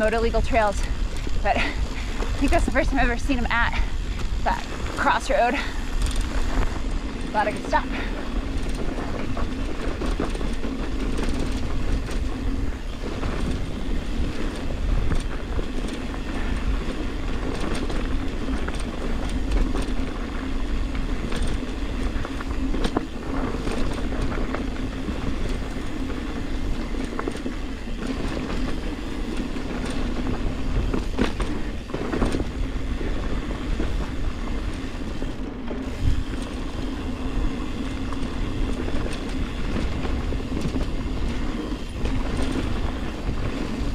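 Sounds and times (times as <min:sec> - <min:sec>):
bike rattling over bumps: 0:00.0 - 0:43.9
bike tyres rumbling over dirt: 0:00.0 - 0:43.9.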